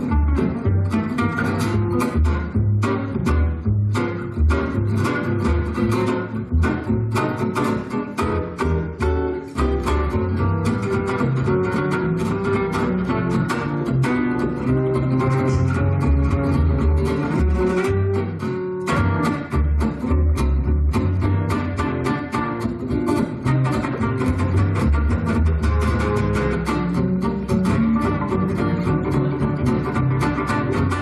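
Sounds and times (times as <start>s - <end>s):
fast gypsy jazz guitar: 0.0s - 31.0s.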